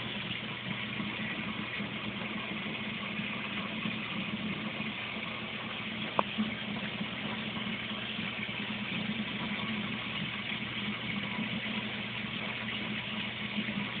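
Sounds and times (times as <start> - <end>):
low machine hum with hiss: 0.0 - 14.0.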